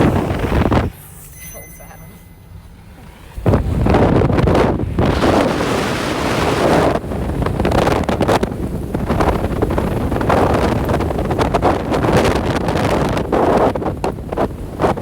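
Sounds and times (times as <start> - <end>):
wind buffeting microphone: 0.0 - 1.0, 2.8 - 15.0.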